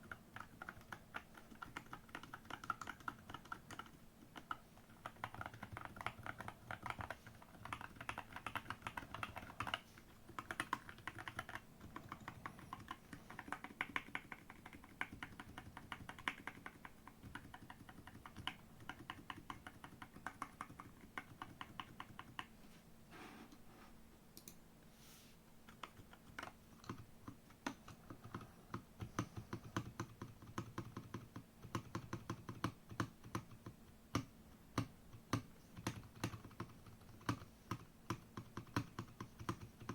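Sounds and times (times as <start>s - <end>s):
mechanical keyboard typing: 0.0s - 22.5s, 25.7s - 39.9s.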